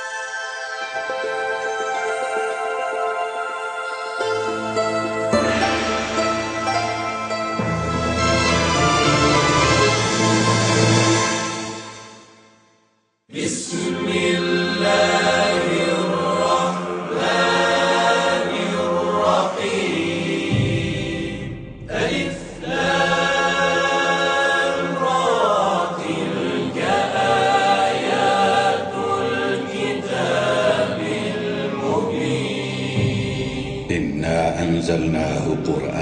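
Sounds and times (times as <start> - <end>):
choir chanting: 2.1 - 12.0, 13.3 - 35.9.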